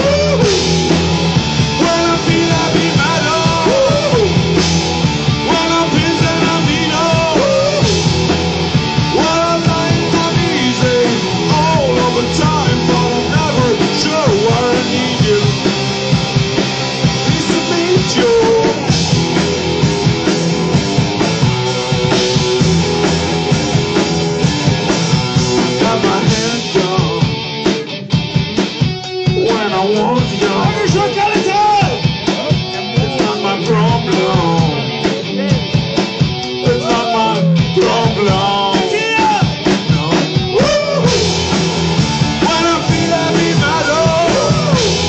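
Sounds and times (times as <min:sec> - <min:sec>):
drum kit: 0:00.0 - 0:45.0
electric guitars: 0:00.0 - 0:45.0.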